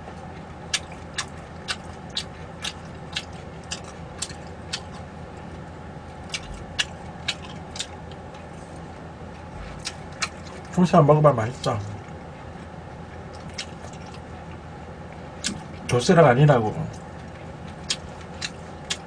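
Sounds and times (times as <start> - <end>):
person chewing food: 0.0 - 10.8, 11.6 - 16.0, 16.9 - 19.0
steady low hum: 0.0 - 19.0.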